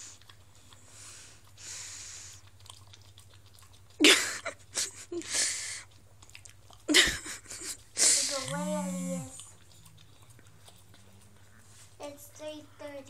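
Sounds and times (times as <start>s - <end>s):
dog licking and chewing: 0.0s - 13.0s.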